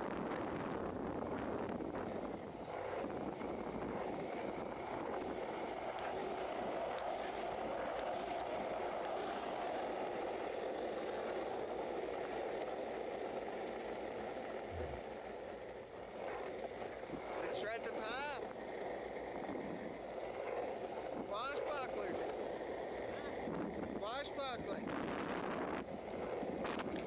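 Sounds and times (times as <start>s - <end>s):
skateboard wheels rolling on concrete: 0.0s - 27.0s.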